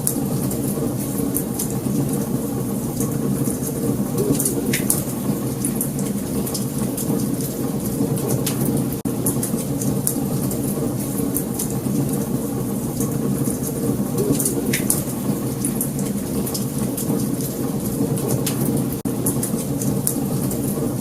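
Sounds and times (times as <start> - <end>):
fire low rumble: 0.0 - 21.0
wood fire crackling: 0.0 - 21.0.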